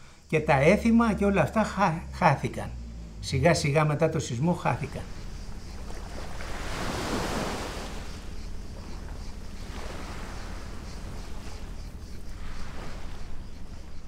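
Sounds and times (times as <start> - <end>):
low steady hum: 0.0 - 14.0
small waves washing: 0.7 - 14.0.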